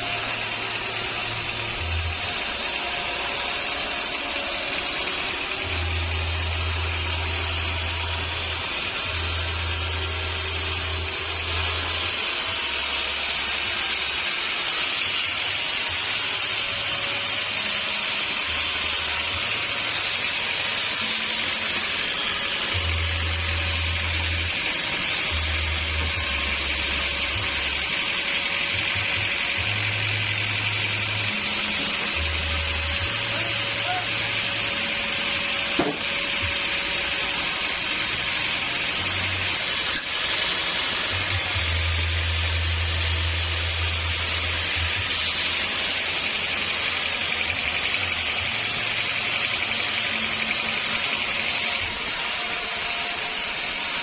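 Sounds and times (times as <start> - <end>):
background music with low bass: 0.0 - 51.9
sawmill saw cutting wood: 0.0 - 54.0.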